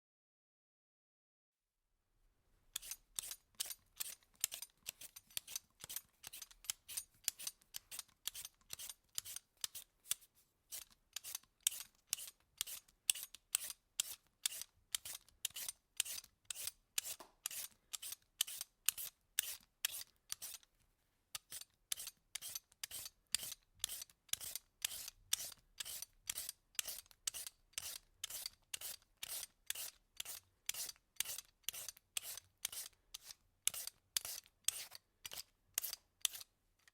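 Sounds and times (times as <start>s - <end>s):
peeler scraping food skin: 2.8s - 20.7s, 21.4s - 36.9s.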